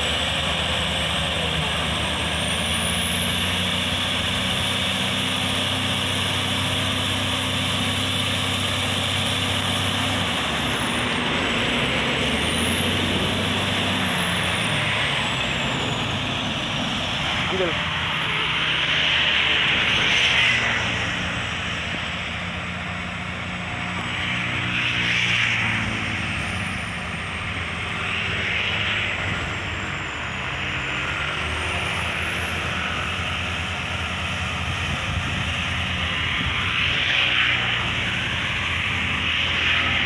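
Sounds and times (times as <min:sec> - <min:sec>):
bulldozer diesel engine droning: 0:00.0 - 0:40.0.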